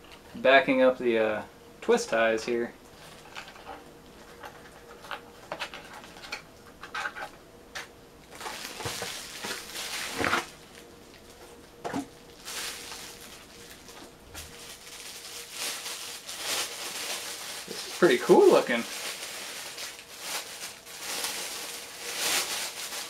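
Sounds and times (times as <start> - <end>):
crinkly packaging rustling: 2.9 - 23.0.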